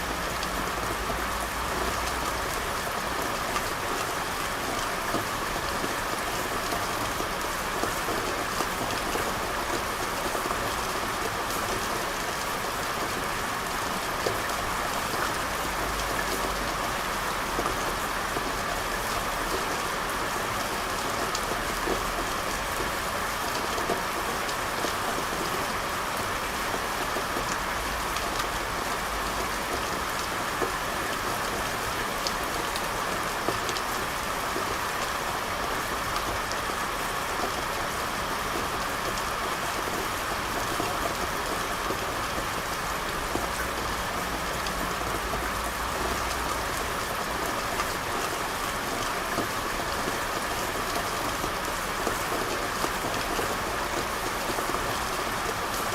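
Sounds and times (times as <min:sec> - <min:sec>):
sharp raindrops: 0:00.0 - 0:55.9
steady rain falling: 0:00.0 - 0:55.9.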